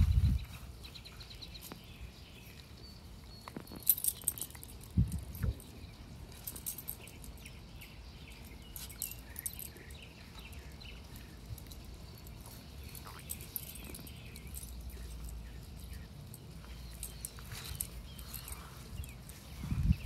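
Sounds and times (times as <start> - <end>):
bird chirping: 0.0 - 20.0
metallic jingling of dog collars: 0.5 - 20.0.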